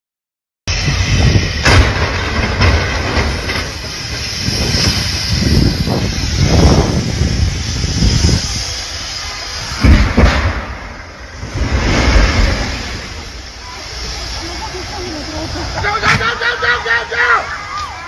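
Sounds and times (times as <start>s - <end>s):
highway traffic rumble: 0.7s - 18.0s.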